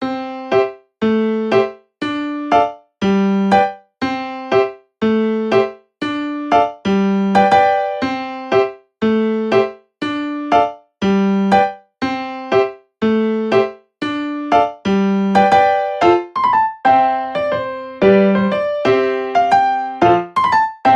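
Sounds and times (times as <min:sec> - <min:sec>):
electric piano repeating figure: 0:00.0 - 0:20.9.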